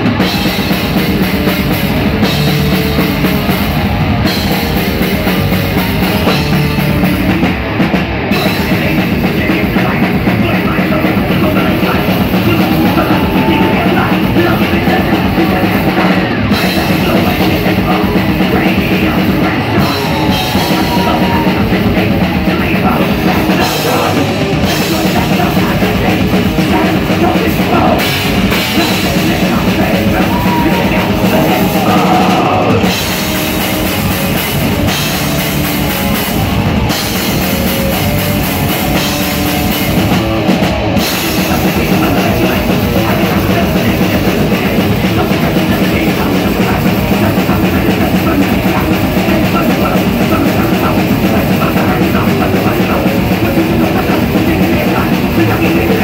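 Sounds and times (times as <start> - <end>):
bass guitar: 0.0 - 56.0
distorted electric guitars: 0.0 - 56.0
fast driving drums: 0.0 - 56.0.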